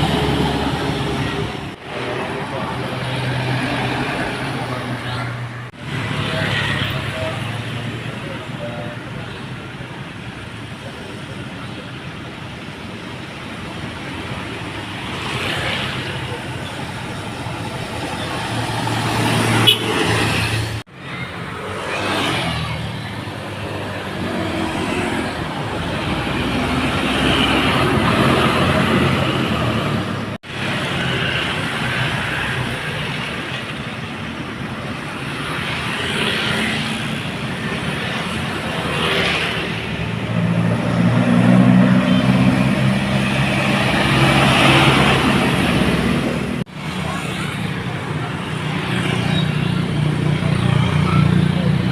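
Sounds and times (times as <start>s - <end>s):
dump truck diesel engines: 0.0s - 51.9s.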